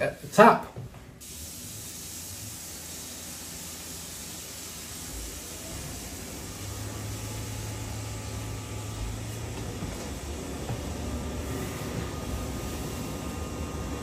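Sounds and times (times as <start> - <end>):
boiler humming: 1.2 - 14.0
tap water running: 1.2 - 14.0.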